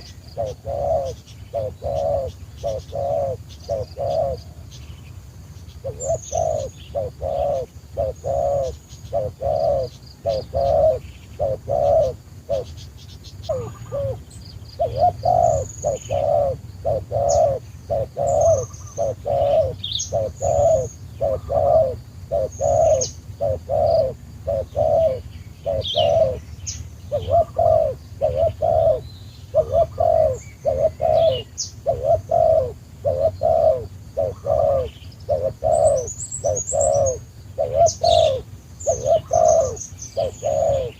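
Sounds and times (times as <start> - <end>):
dove cooing: 0.0 - 40.9
small birds chirping: 0.0 - 40.9.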